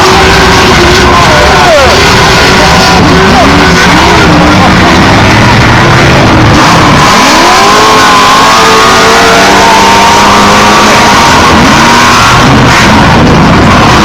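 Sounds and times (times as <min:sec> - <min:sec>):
race engines revving and accelerating: 0:00.0 - 0:14.0.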